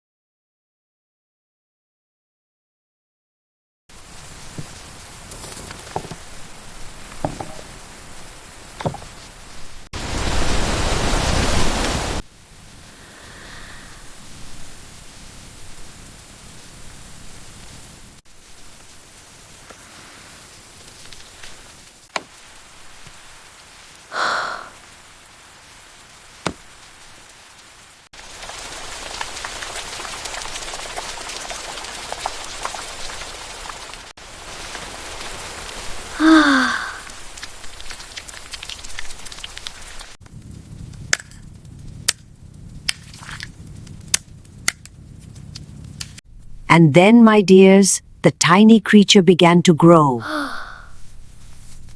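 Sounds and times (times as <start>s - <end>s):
rain hiss: 3.9s - 46.6s.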